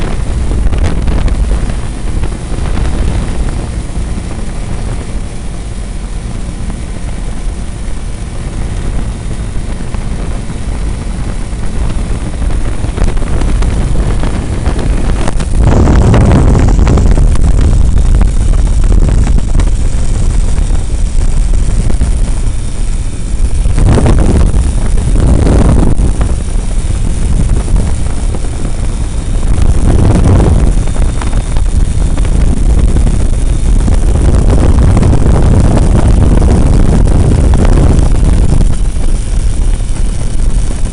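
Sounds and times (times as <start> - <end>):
aircraft engine drone: 0.0 - 40.9
rushing air: 0.0 - 40.9.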